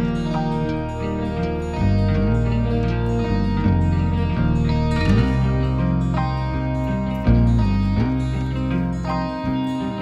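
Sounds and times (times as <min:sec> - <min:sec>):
bass line: 0:00.0 - 0:10.0
plucked strings: 0:00.0 - 0:10.0.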